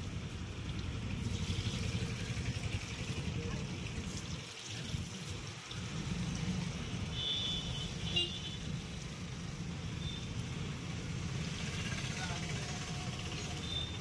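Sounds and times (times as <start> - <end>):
constant hiss: 0.0 - 14.0
road traffic rumble: 0.0 - 14.0.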